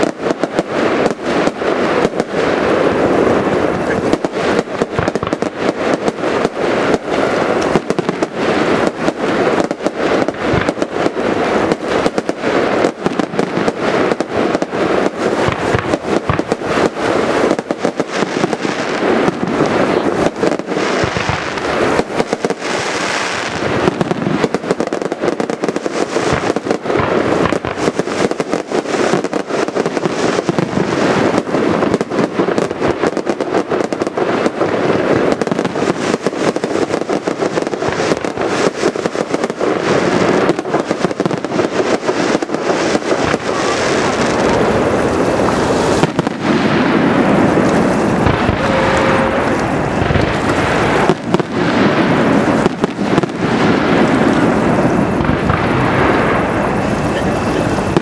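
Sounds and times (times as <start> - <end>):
firework hissing rush: 0.0 - 58.0
firework shell bursts and crackling: 0.0 - 58.0.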